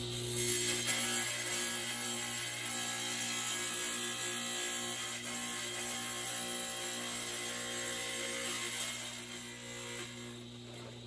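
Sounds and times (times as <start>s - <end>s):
tile saw cutting: 0.0s - 10.9s.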